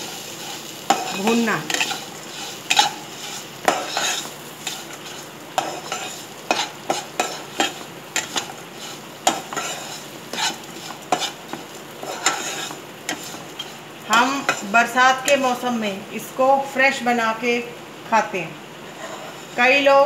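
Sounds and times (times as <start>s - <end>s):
metal spatula scraping a pan: 0.0s - 15.5s, 18.9s - 19.8s
food sizzling in oil: 0.0s - 17.9s, 18.6s - 20.0s.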